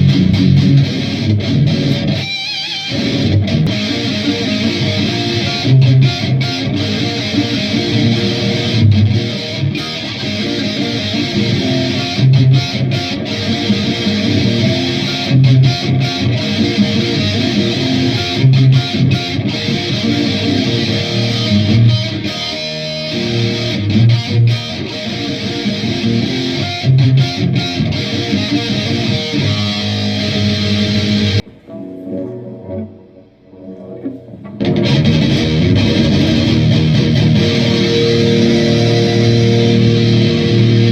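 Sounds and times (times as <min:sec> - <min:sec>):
distorted electric guitar riffing: 0:00.0 - 0:40.9.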